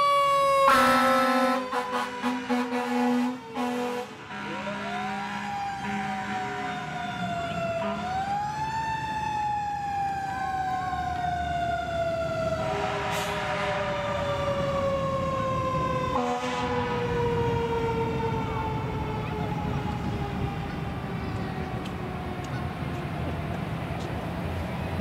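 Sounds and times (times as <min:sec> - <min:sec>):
mechanical siren wail: 0:00.0 - 0:22.8.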